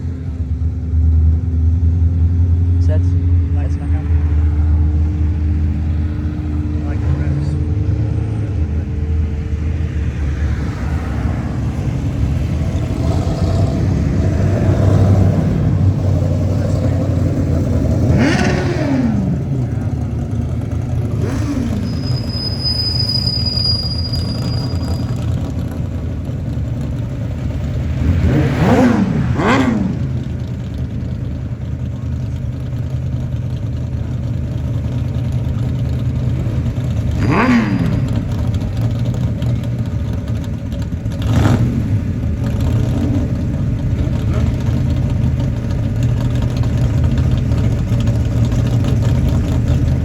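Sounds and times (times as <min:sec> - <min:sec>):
cars driving past: 0:00.0 - 0:50.0.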